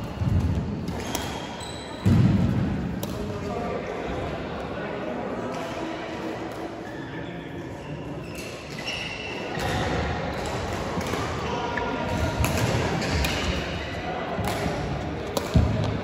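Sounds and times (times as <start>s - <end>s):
voices in background: 1.0s - 16.0s.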